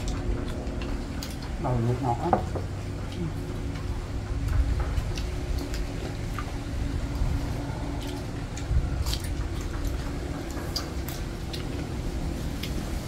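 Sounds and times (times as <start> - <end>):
low rumble: 0.0 - 13.0
people chewing: 0.0 - 13.0.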